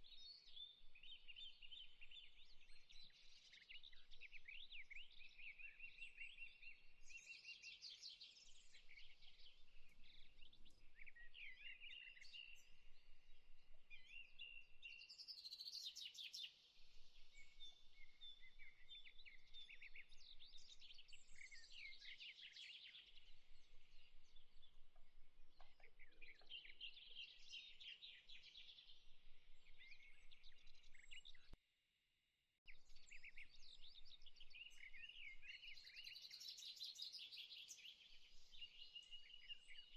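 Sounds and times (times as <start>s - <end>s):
small birds chirping and trilling: 0.0s - 31.6s, 32.7s - 39.9s.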